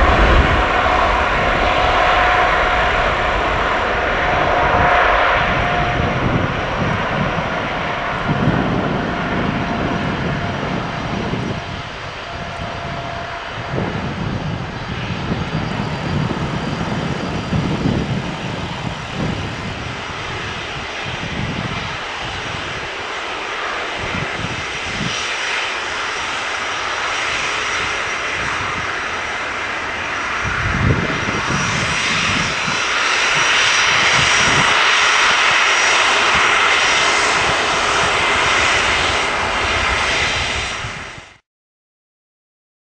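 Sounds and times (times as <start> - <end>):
high engine whine: 0.0 - 41.4
jet engines roaring: 0.0 - 41.4.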